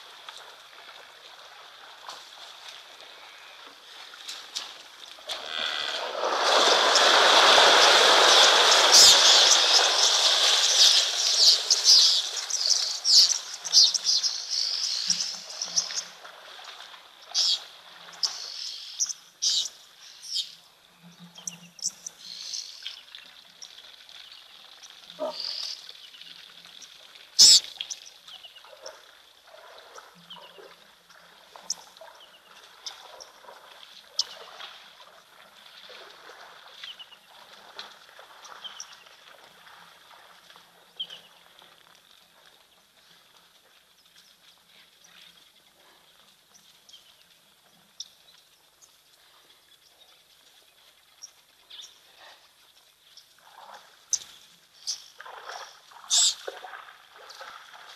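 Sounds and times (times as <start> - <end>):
buffalo splashing through water: 0.0 - 19.2, 21.4 - 57.9.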